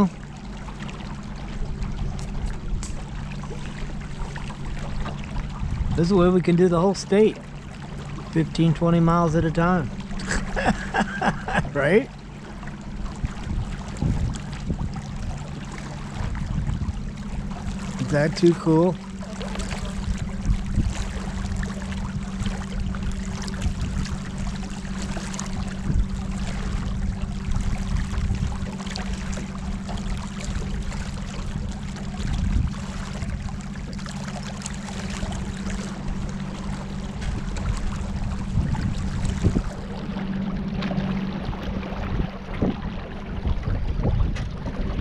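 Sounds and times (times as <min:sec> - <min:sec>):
steady low hum: 0:00.0 - 0:45.0
water splashing against boat: 0:00.0 - 0:45.0.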